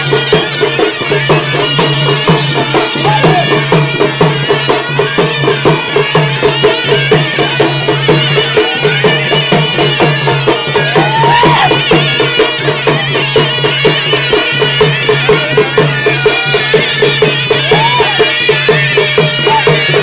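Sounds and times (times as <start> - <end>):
fast drum beat: 0.0 - 20.0.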